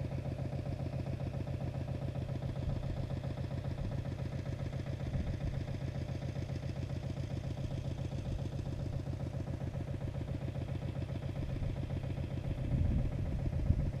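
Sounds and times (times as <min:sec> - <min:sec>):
diesel tractor engine chugging: 0:00.0 - 0:14.0.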